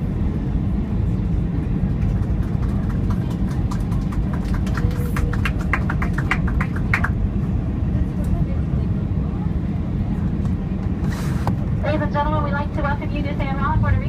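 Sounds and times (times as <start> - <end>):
low aircraft cabin rumble: 0.0 - 14.0.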